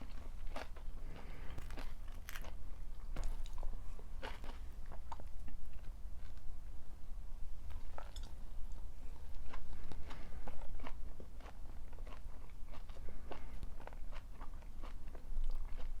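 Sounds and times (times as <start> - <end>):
chewing crunchy food: 0.0 - 6.5, 7.7 - 16.0.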